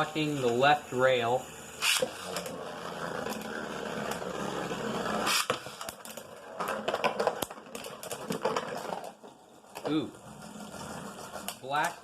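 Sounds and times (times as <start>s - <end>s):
spinning tops scraping plastic floor: 0.0s - 12.0s.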